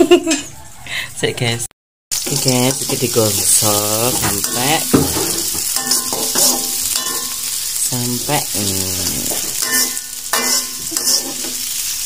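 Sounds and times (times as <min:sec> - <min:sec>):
food sizzling in oil: 0:02.1 - 0:12.0
metal spatula scraping wok: 0:02.2 - 0:12.0.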